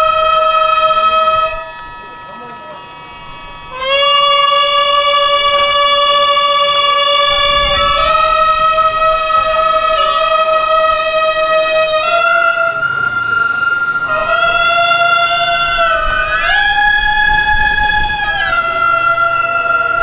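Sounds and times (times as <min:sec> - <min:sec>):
double-reed pipe held notes: 0:00.0 - 0:20.0
faint steady tones: 0:00.0 - 0:20.0.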